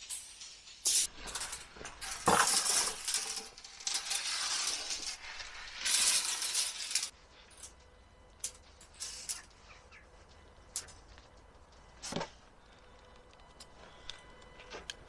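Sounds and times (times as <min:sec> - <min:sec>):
steel rebar clinking and scraping: 0:00.0 - 0:15.0.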